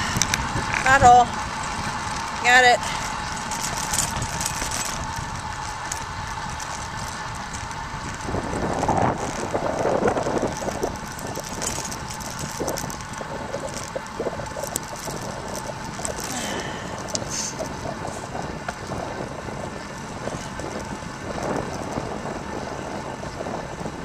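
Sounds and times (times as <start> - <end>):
bicycle rolling noise: 0.0 - 24.0
wind rushing over microphone: 0.0 - 24.0.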